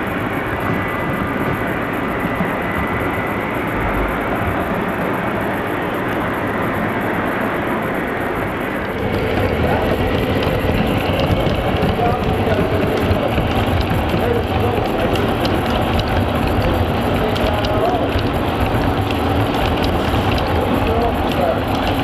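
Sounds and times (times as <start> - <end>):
model trains rolling rumble: 0.0 - 22.0.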